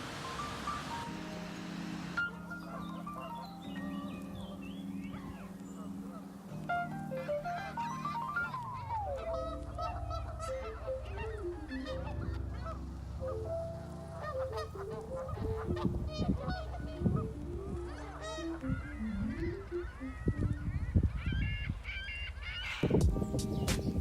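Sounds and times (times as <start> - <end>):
background music melody: 0.0 - 24.0
flock of birds calling: 0.0 - 24.0.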